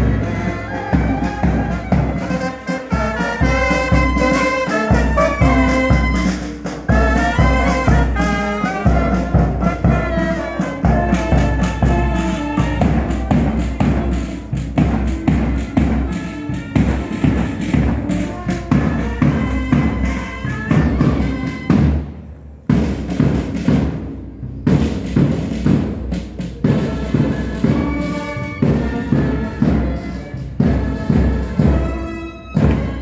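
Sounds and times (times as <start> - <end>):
drum beating steady rhythm: 0.0 - 33.0
marching band playing: 0.0 - 33.0.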